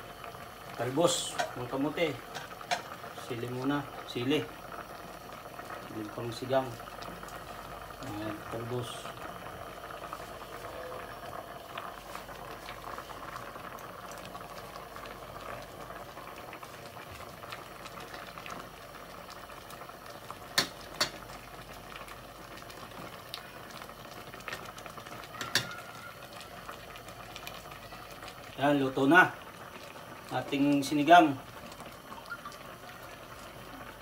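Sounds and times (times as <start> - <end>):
broth bubbling in a pot: 0.0 - 34.0.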